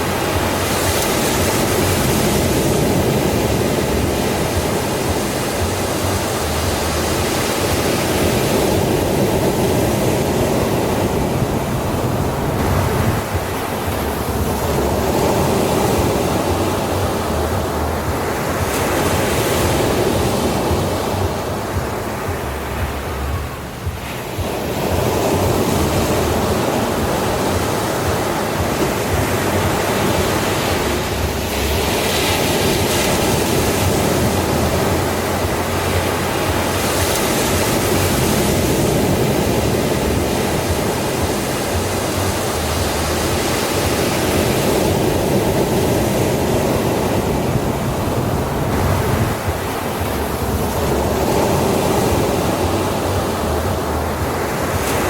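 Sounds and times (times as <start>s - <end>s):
ocean surf washing onto shore: 0.0s - 55.0s.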